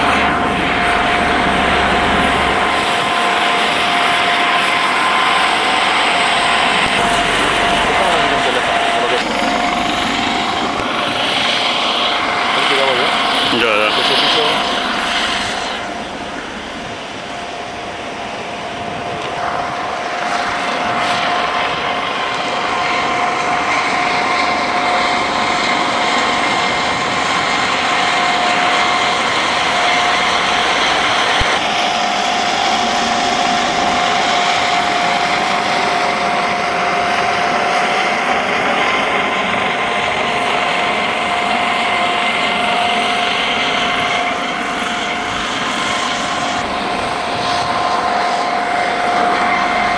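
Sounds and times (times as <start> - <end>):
helicopter rotor rushing: 0.0 - 49.9
helicopter turbine whine: 0.0 - 49.9.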